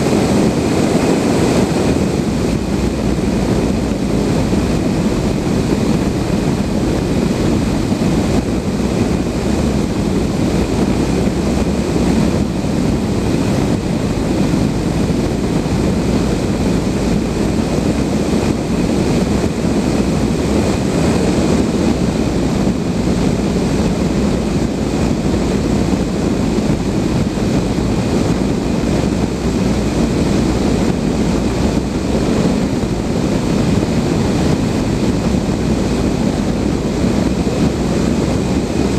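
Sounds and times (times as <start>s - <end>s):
rushing airflow and wind noise: 0.0s - 38.9s.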